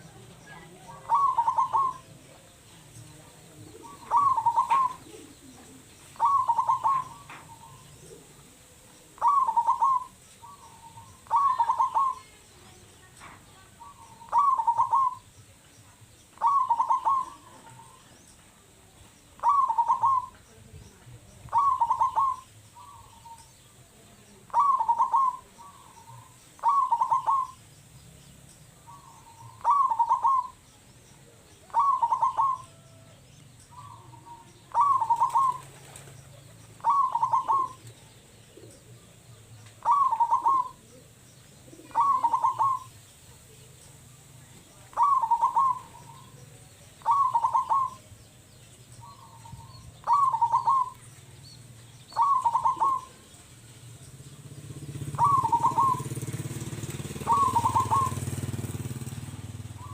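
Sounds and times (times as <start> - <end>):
dove cooing: 0.0 - 15.3, 16.3 - 20.6, 21.4 - 27.7, 28.8 - 43.7, 44.5 - 48.4, 49.0 - 51.1, 52.1 - 53.6, 54.4 - 59.9.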